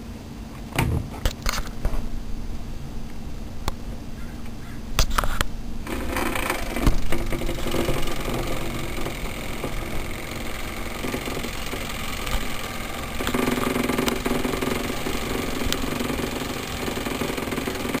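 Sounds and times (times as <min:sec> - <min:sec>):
machine rumbling and humming: 0:00.0 - 0:18.0.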